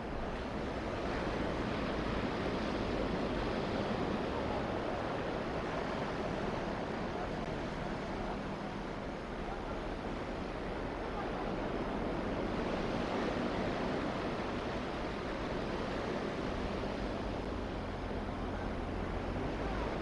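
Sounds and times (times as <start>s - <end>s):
surf breaking on a beach: 0.0s - 20.0s.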